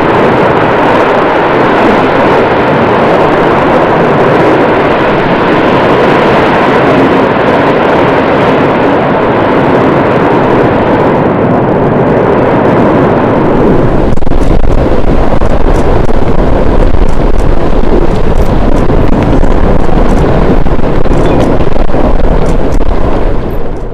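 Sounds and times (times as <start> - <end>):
volcanic eruption rumbling roar: 0.0 - 23.9.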